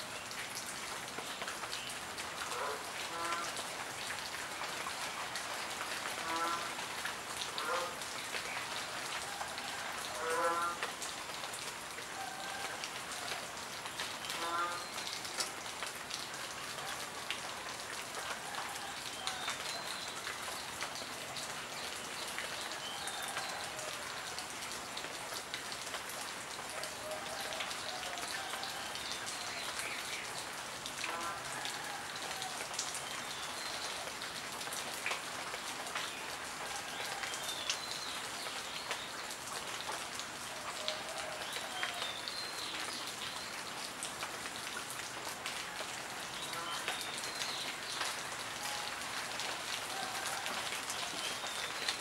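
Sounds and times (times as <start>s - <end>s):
rain falling on leaves: 0.0s - 52.0s.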